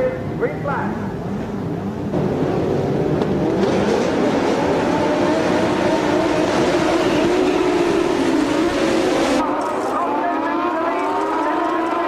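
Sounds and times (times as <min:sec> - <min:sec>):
racing car engine running: 0:01.5 - 0:12.0.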